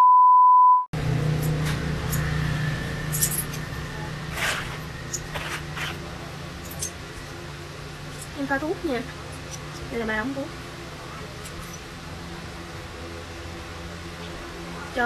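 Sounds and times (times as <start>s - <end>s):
steady low hum: 1.0s - 15.0s.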